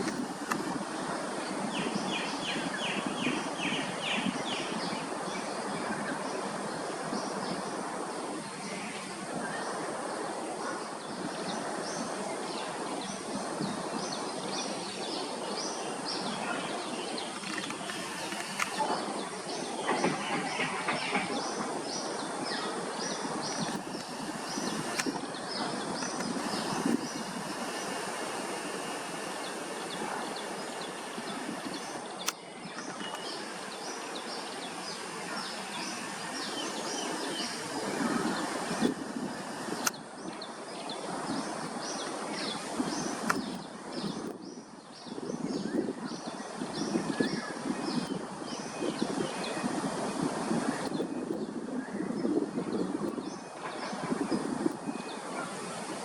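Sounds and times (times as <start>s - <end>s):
outdoor background noise: 0.0s - 56.0s
birds chirping: 8.4s - 56.0s.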